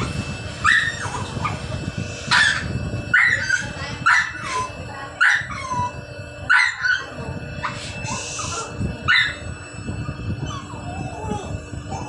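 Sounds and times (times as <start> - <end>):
dog yelping and whining: 0.0 - 1.7, 2.3 - 9.4, 10.0 - 12.0.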